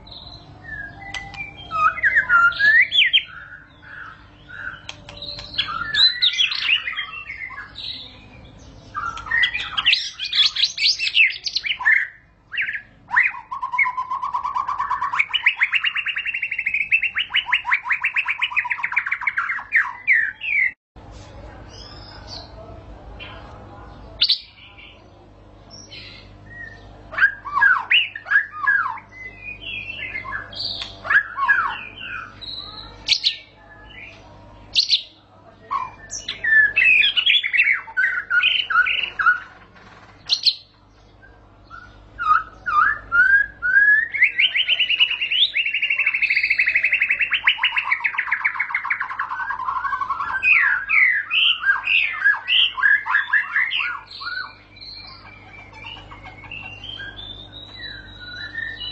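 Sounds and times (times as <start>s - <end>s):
songbird singing whistled phrases: 0.0s - 20.8s, 25.7s - 39.6s, 40.2s - 58.9s.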